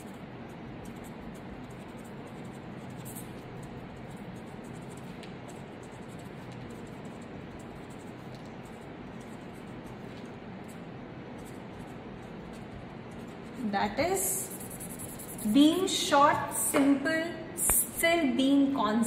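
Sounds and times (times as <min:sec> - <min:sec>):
marker pen scratching on paper: 0:00.0 - 0:16.1
room noise: 0:00.0 - 0:19.0.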